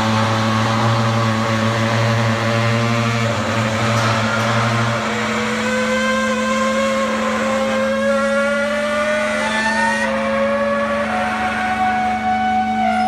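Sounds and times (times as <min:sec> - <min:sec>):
baler machine humming and whining: 0:00.0 - 0:13.0.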